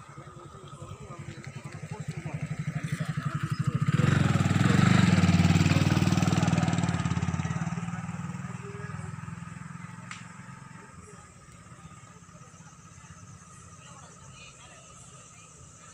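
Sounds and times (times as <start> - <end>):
small vehicle engine passing: 0.0 - 15.9.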